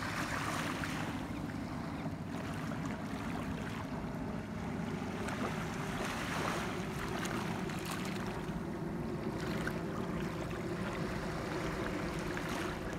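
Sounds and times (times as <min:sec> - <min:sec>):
waves lapping on shore: 0:00.0 - 0:12.9.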